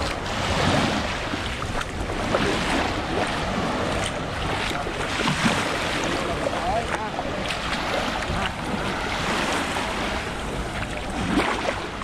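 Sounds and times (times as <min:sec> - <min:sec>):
waves washing on pebbly shore: 0:00.0 - 0:12.0.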